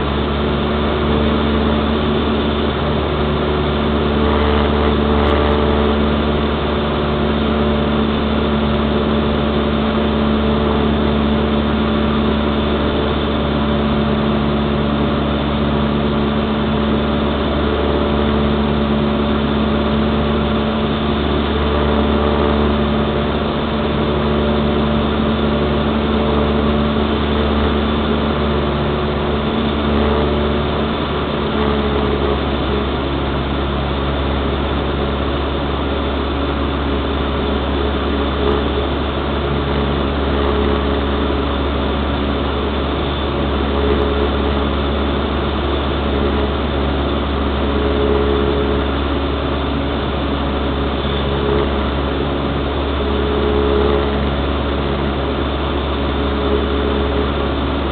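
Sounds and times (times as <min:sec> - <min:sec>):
propeller plane engine droning: 0:00.0 - 0:57.9.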